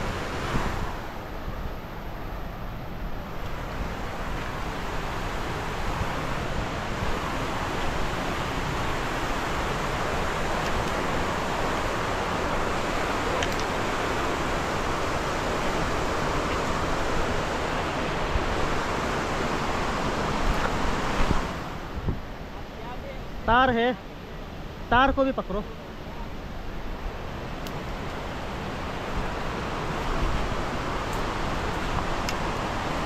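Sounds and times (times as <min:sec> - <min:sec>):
river rapids rushing: 0:00.0 - 0:33.0.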